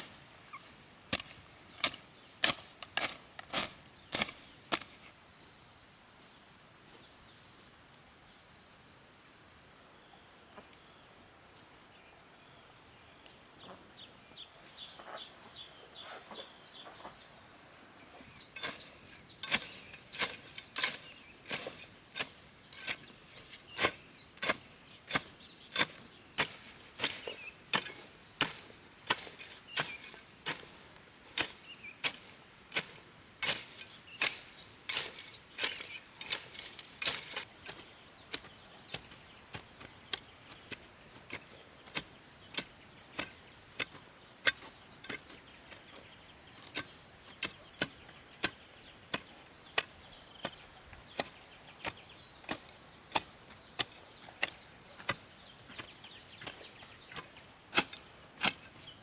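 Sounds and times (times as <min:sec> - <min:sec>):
quiet rural ambience: 0:00.0 - 0:59.0.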